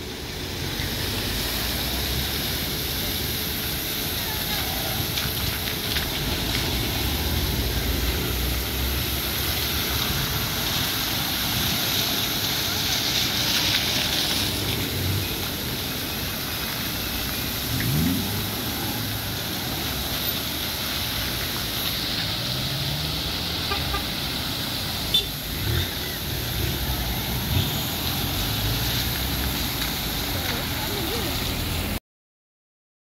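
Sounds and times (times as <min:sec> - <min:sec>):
cars driving on wet road: 0:00.0 - 0:32.0
water jet spraying hiss: 0:00.0 - 0:32.0.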